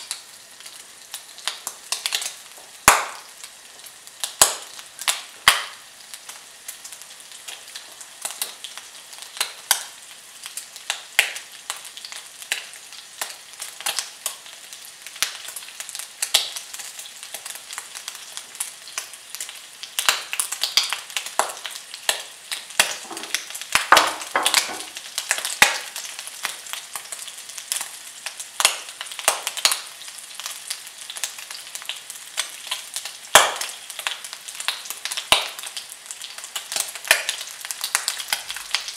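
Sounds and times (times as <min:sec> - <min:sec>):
bacon sizzling with pops: 0:00.0 - 0:38.9.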